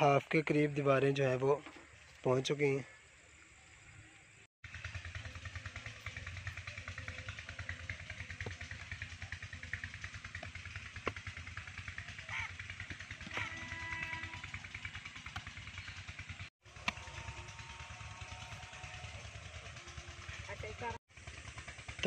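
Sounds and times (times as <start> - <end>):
engine running with fast pulse: 2.8 - 22.0.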